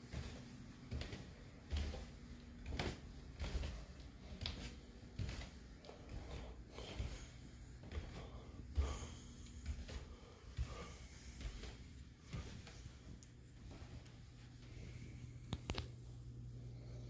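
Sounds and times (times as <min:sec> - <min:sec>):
footsteps: 0:00.0 - 0:16.1
faint steady hum: 0:00.0 - 0:17.0.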